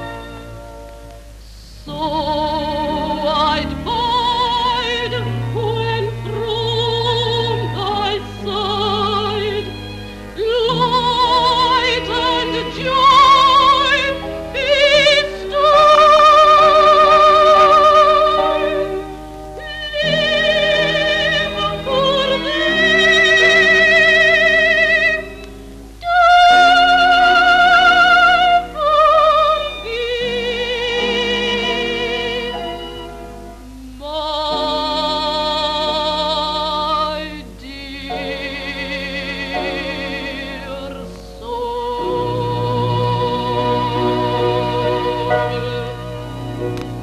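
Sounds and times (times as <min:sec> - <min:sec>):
woman singing operatically: 0:01.8 - 0:19.0, 0:19.6 - 0:33.1, 0:33.9 - 0:46.4.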